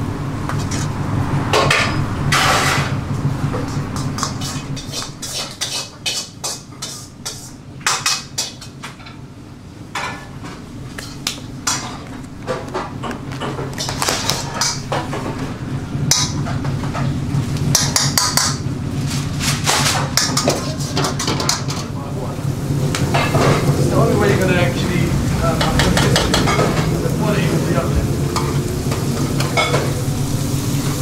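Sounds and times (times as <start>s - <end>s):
low kitchen hum: 0.0s - 31.0s.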